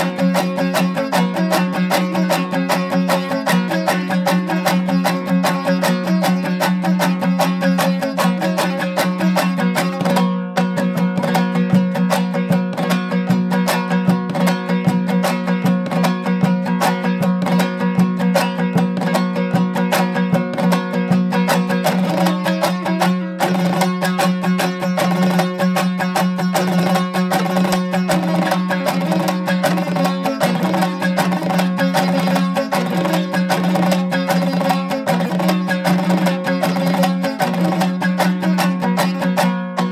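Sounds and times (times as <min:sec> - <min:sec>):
fast plucked-string music: 0:00.0 - 0:39.9.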